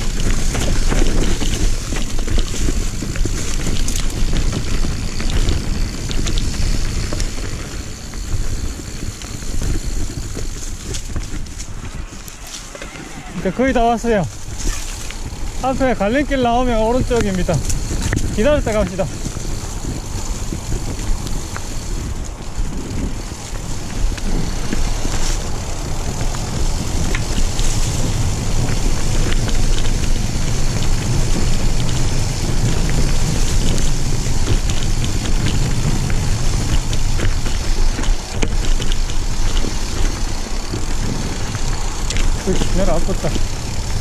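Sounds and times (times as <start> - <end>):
bike rattles and clicks: 0.0 - 44.0
tyres rumbling on dirt trail: 0.0 - 44.0
wind buffeting microphone: 0.0 - 44.0.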